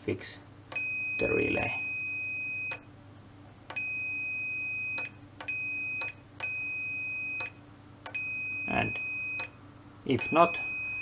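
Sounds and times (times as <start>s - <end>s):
multimeter continuity beep: 0.7s - 2.9s, 3.7s - 9.6s, 10.2s - 11.0s.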